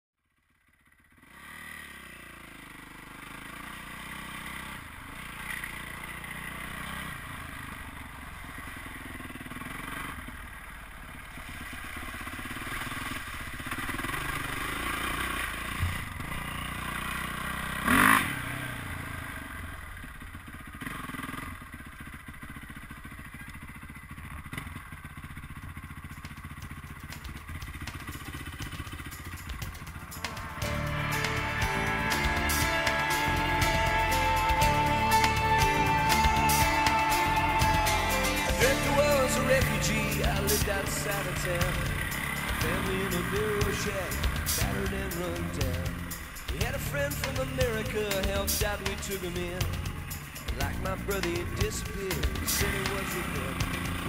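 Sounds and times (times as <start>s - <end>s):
motorcycle engine revving: 0.3s - 54.0s.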